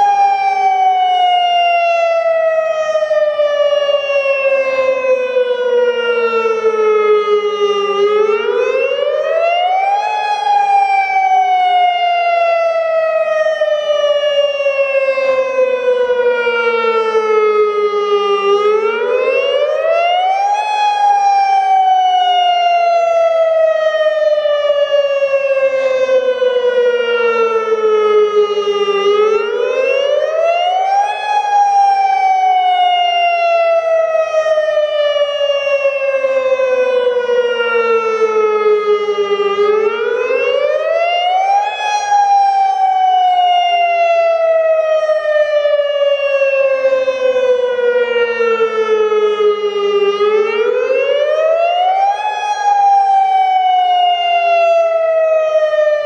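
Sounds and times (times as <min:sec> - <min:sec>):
warning siren wailing: 0:00.0 - 0:56.0.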